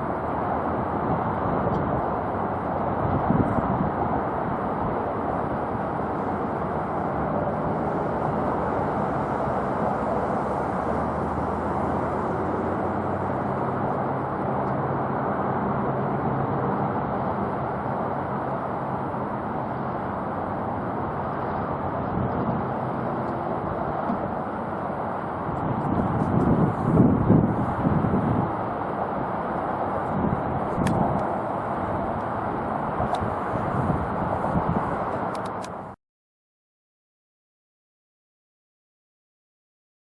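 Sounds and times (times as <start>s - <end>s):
jet aircraft rumble: 0.0s - 36.0s.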